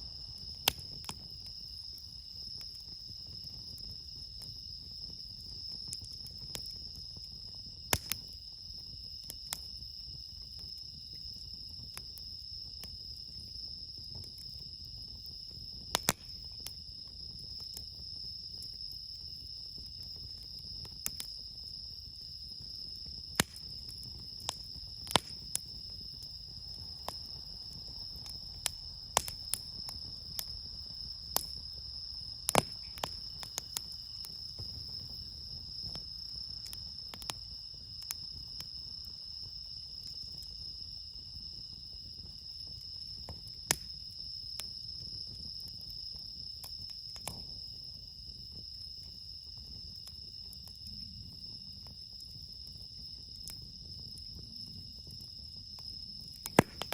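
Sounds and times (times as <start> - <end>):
campfire crackling and popping: 0.0 - 56.9
crickets chirping: 0.0 - 56.9.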